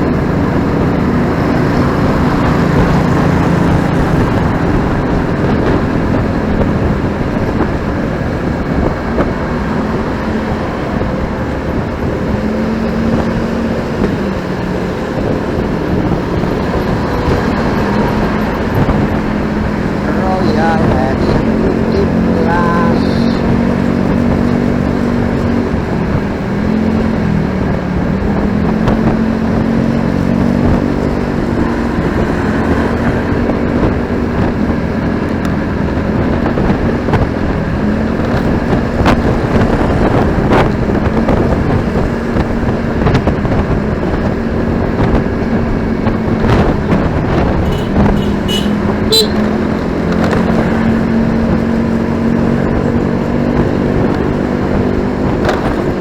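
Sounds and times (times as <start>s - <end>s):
motorcycle engine running: 0.0s - 56.0s
road noise: 0.0s - 56.0s
wind noise: 0.0s - 56.0s.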